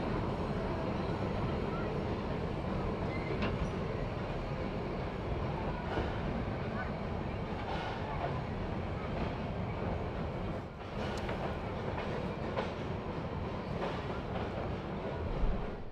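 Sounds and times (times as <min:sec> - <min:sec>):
steam train rumbling on track: 0:00.0 - 0:15.9.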